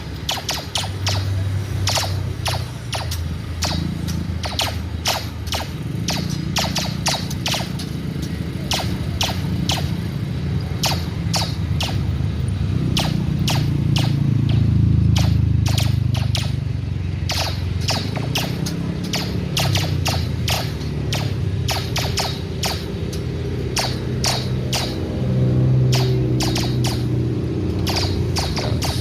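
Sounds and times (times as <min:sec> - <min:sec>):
low engine drone: 0:00.0 - 0:29.0
sharp cracks: 0:00.2 - 0:10.1, 0:10.8 - 0:12.2, 0:12.9 - 0:25.2, 0:25.8 - 0:29.0.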